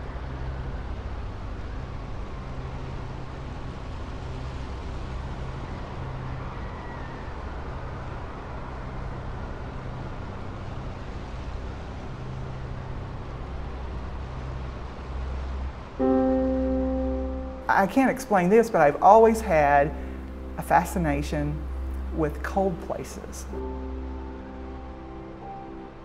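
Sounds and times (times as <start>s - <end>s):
low uneven rumble: 0.0s - 26.0s.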